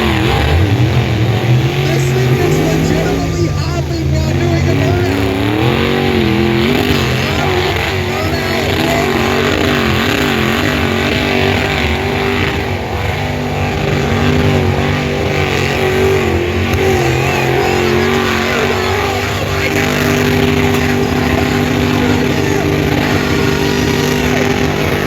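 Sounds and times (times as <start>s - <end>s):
car engine revving in burnout: 0.0s - 25.0s.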